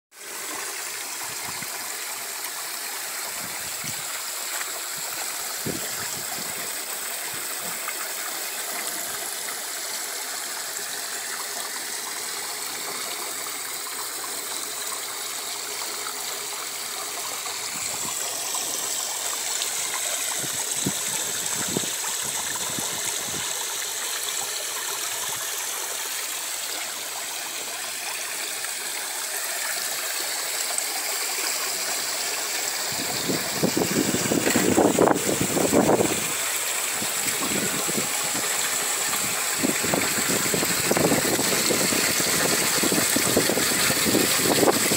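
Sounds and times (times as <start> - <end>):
water splashing into tank: 0.2 - 44.9.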